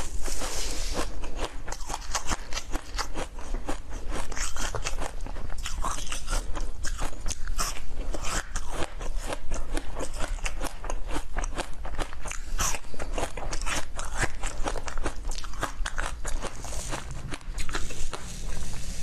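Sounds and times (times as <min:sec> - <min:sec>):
person crunching and chewing food: 0:00.0 - 0:19.0.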